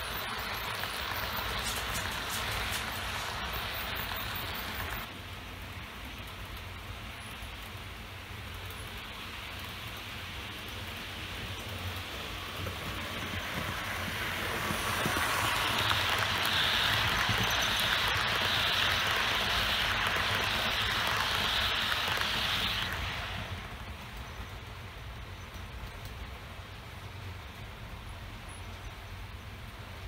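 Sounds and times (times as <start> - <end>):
model train wheels rattling on rails: 0.0 - 5.1, 6.2 - 26.2.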